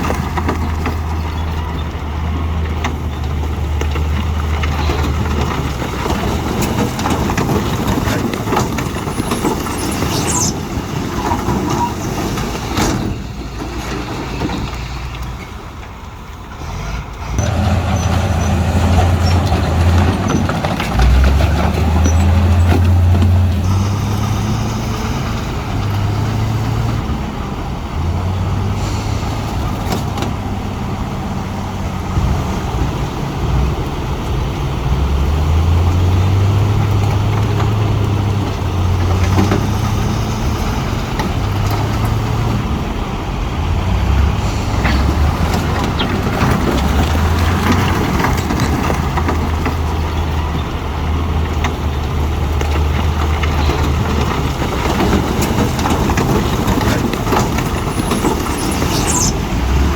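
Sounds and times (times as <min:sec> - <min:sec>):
heavy machine diesel engine running: 0:00.0 - 0:59.9.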